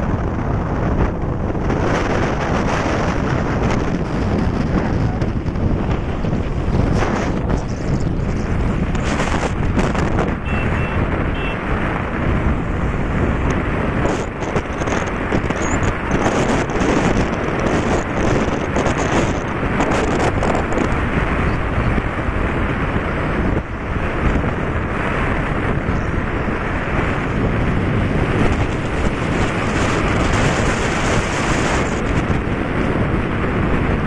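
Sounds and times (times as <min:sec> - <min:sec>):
motorcycle engine and road noise: 0:00.0 - 0:34.0
wind buffeting microphone: 0:00.0 - 0:34.0.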